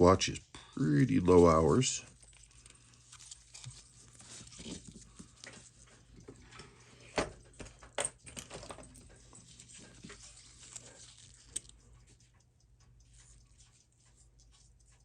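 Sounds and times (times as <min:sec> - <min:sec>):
watch and tools clicking: 0:02.0 - 0:15.0.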